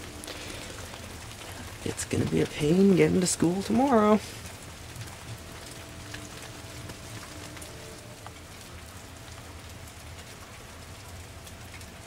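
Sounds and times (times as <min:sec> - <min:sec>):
heavy wet snow falling: 0:00.0 - 0:12.0.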